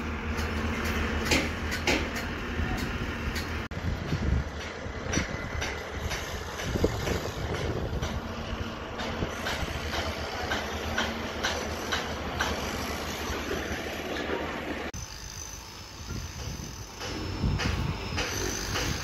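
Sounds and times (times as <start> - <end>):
machinery rumble: 0.0 - 19.0.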